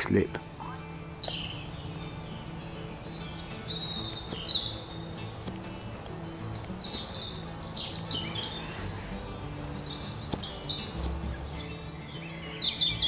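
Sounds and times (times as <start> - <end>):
music with held low notes: 0.0 - 13.0
songbirds chirping: 0.0 - 13.0.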